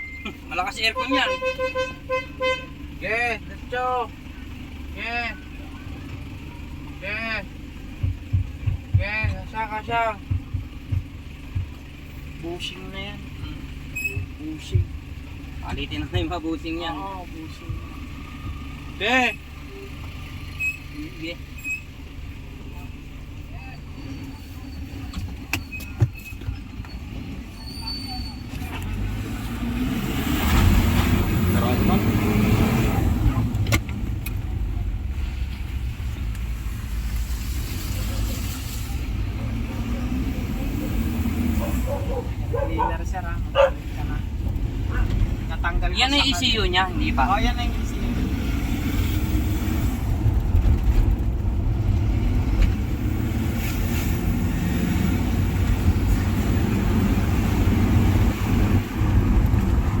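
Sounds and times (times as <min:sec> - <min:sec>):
engine and road rumble: 0:00.0 - 1:00.0.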